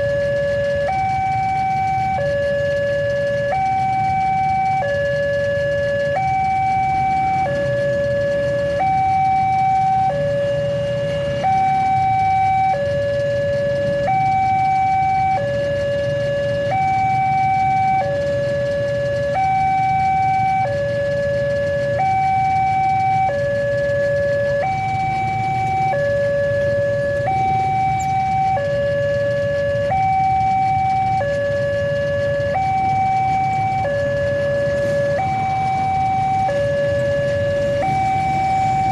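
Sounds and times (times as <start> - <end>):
two-tone level crossing siren: 0.0 - 38.9.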